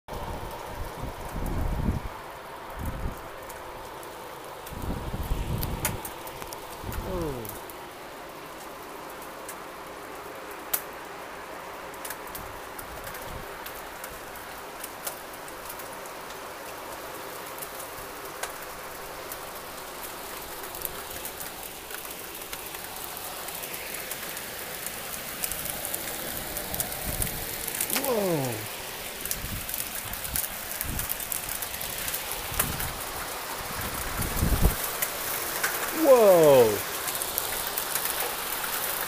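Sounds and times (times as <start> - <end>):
rain hissing: 0.1 - 39.0
hailstones ticking: 2.7 - 39.0.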